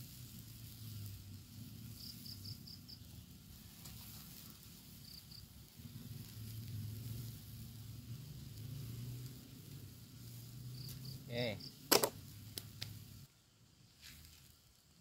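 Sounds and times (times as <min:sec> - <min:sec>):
wok cooking hiss and rumble: 0:00.0 - 0:15.0
high insect chirps: 0:00.8 - 0:12.9.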